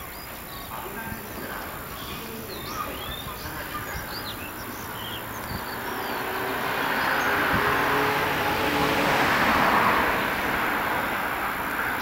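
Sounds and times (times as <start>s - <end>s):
rail-yard noise: 0.0s - 12.0s
small birds chirping: 0.0s - 12.0s.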